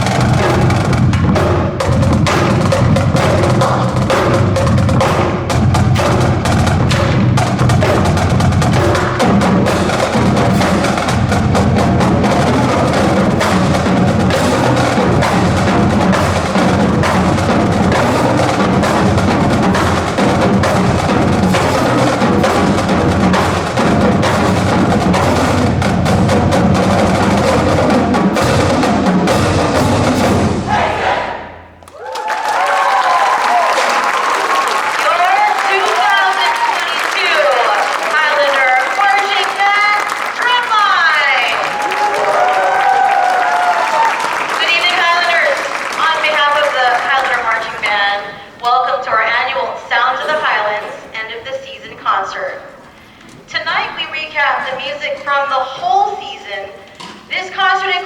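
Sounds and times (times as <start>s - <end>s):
drumline playing cadence: 0.0s - 58.0s.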